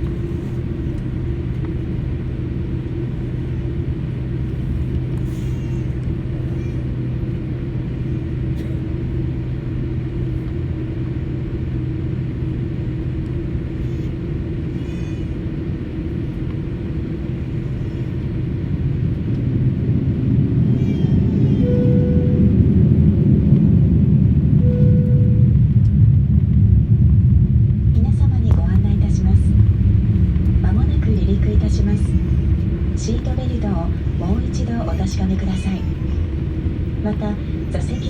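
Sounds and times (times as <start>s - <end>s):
constant cabin hum: 0.0s - 38.0s
jet engines rumbling: 0.0s - 38.0s.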